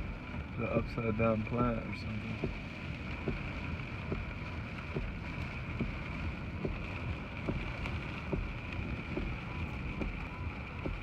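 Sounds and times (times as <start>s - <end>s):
road and wind noise in car cabin: 0.0s - 11.0s
soft regular tick: 0.8s - 11.0s.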